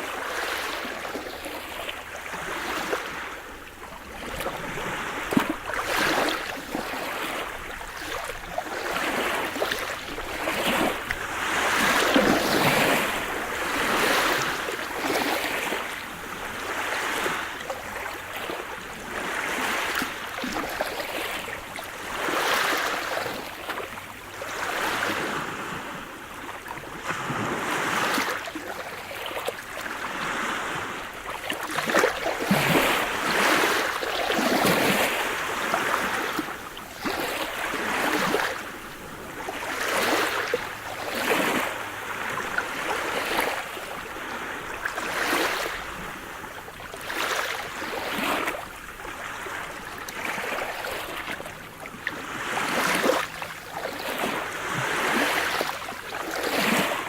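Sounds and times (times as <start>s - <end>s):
waves breaking: 0.0s - 57.0s.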